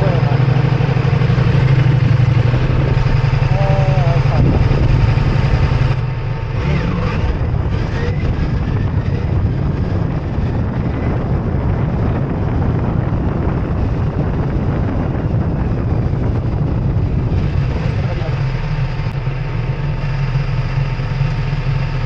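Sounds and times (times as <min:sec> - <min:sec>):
wind rushing: 0:00.0 - 0:20.0
motorcycle engine drone: 0:00.0 - 0:22.0.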